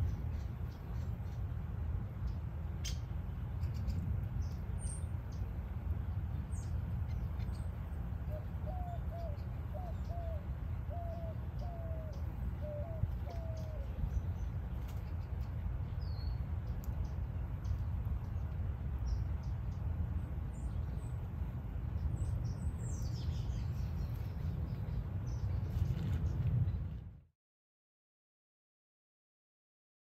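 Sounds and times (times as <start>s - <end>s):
steady low rumble: 0.0s - 27.3s.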